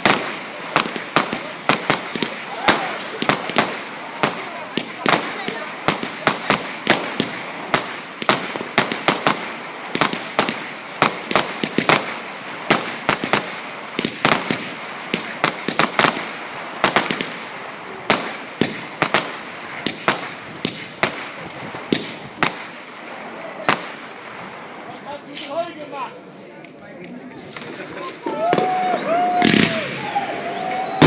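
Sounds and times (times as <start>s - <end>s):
fireworks exploding: 0.0s - 26.0s, 26.6s - 31.0s
continuous noisy background: 0.0s - 31.0s.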